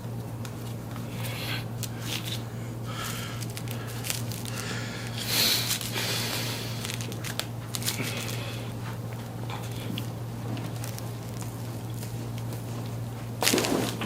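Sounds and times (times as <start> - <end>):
steady low hum: 0.0 - 14.0
rustling and crinkling handling: 0.1 - 14.0.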